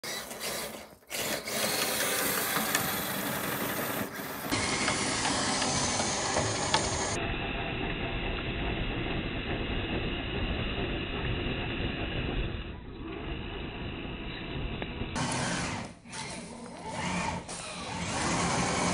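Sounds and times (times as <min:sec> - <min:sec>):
electric motor whirring: 0:00.0 - 0:09.0, 0:09.6 - 0:18.9.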